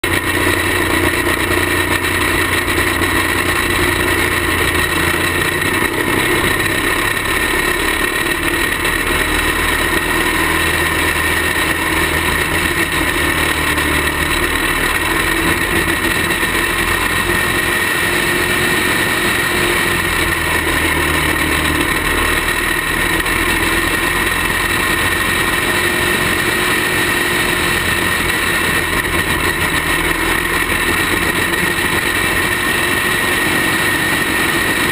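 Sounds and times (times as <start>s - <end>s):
kart engine running hard: 0.0s - 34.9s.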